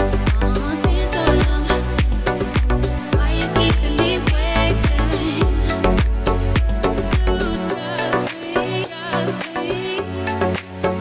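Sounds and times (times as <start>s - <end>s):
dance music with beat: 0.0s - 11.0s.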